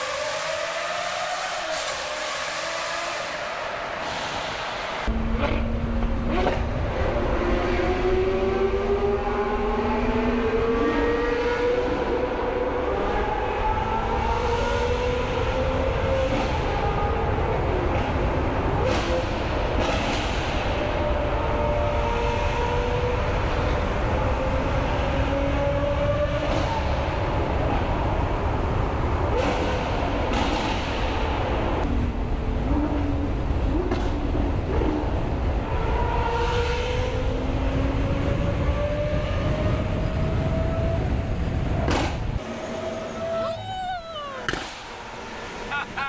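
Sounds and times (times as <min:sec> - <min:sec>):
car engine and road noise drone: 0:00.0 - 0:46.0.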